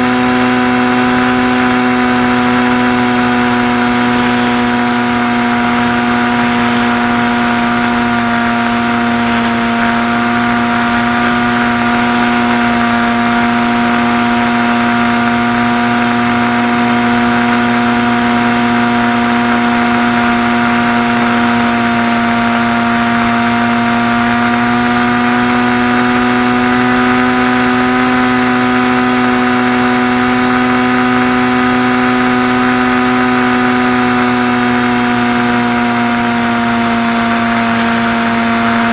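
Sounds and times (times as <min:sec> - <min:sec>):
model plane electric motor whine: 0:00.0 - 0:38.9.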